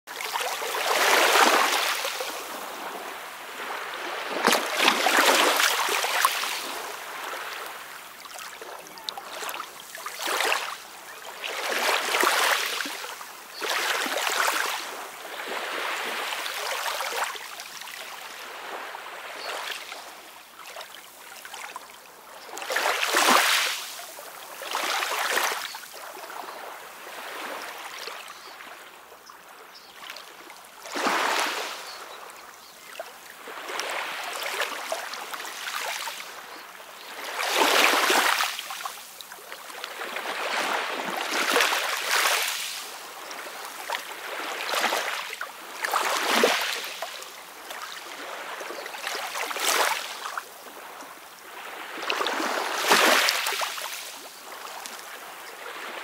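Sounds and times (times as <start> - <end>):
small waves lapping at shore: 0.1 - 56.0.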